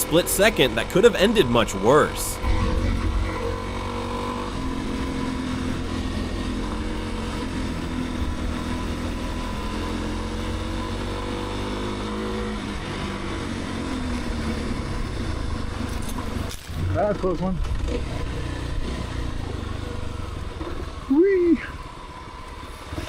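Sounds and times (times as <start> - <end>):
motorcycle engine cruising: 0.0 - 23.0
road noise: 0.0 - 23.0.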